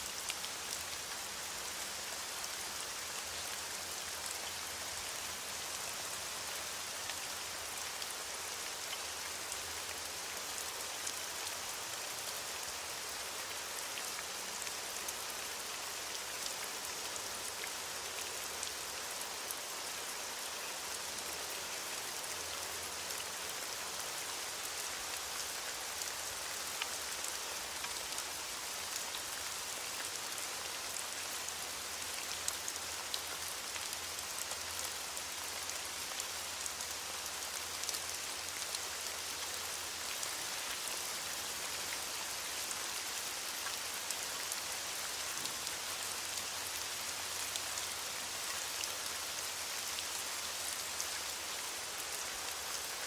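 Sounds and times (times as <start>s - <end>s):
rain hissing on surface: 0.0s - 53.0s.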